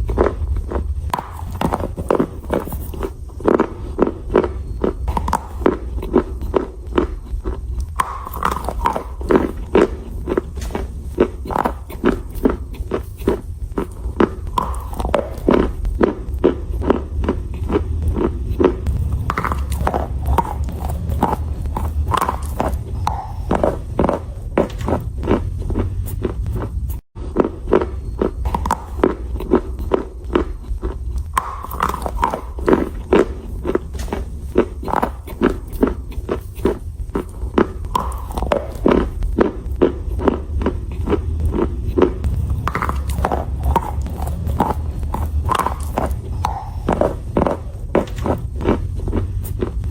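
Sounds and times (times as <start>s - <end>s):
chewing crunches: 0.0s - 49.9s
steady low hum: 0.0s - 49.9s.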